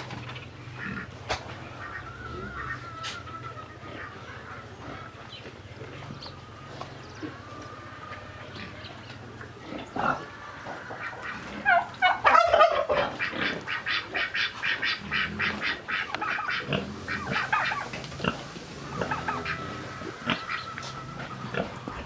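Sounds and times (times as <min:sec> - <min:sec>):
chickens calling loudly: 0:00.0 - 0:22.0
chickens clucking: 0:00.0 - 0:22.0.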